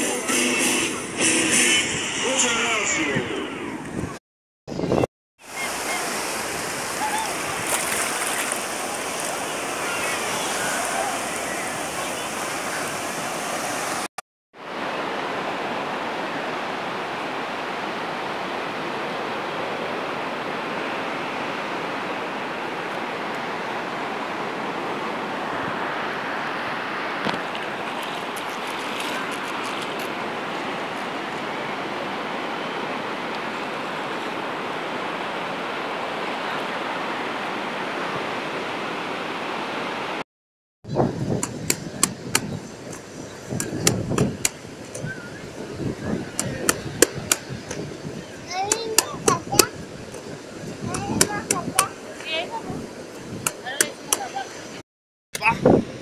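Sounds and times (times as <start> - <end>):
surf washing onto beach: 5.4 - 40.2, 40.9 - 54.8.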